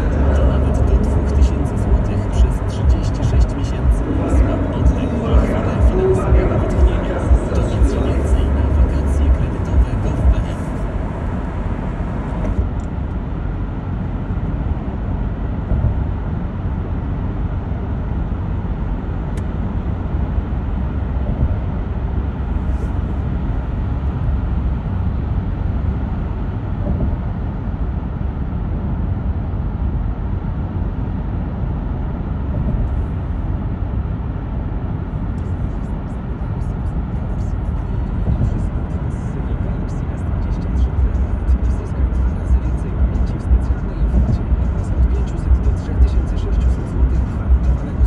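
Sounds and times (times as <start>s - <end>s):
car road noise in tunnel: 0.0s - 48.0s.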